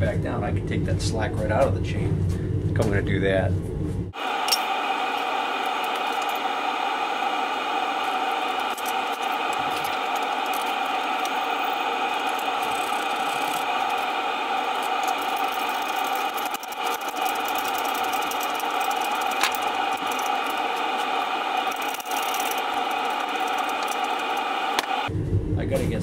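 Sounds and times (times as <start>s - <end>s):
machine droning steadily: 0.0s - 26.0s.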